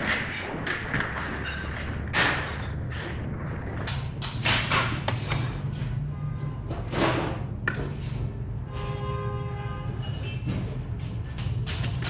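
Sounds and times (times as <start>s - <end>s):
metal clattering and knocking: 0.0s - 9.0s, 9.8s - 12.0s.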